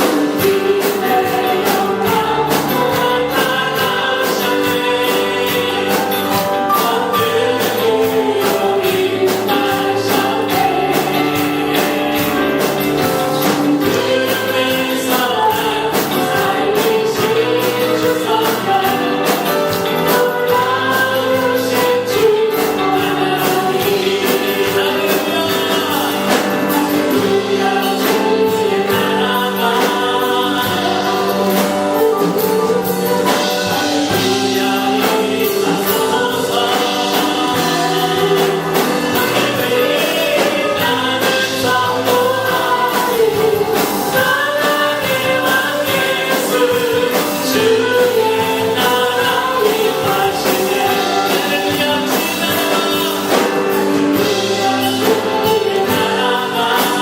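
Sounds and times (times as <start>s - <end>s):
group singing a praise song: 0.0s - 57.0s
steady drum beat: 0.0s - 57.0s.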